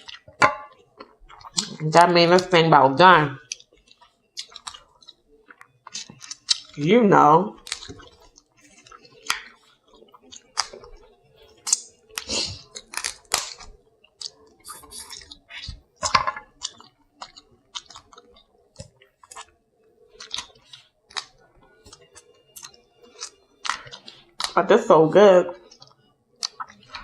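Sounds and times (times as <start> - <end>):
chewing and wet smacking: 0.0 - 24.6, 25.5 - 27.0.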